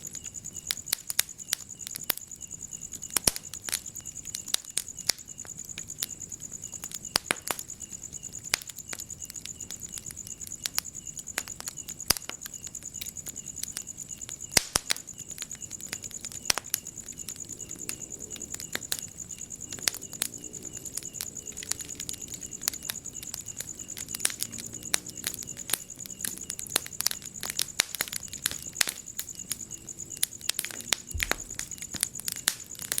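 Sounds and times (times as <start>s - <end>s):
insect trill: 0.0s - 33.0s
wood fire crackling: 0.0s - 33.0s.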